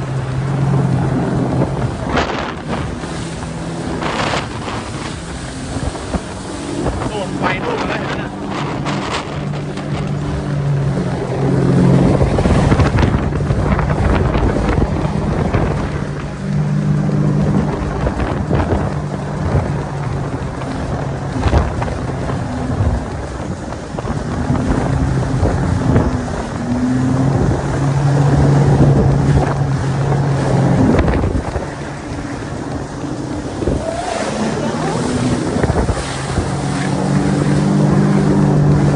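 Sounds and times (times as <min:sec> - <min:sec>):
boat engine humming: 0:00.0 - 0:38.9
wind buffeting microphone: 0:00.0 - 0:38.9.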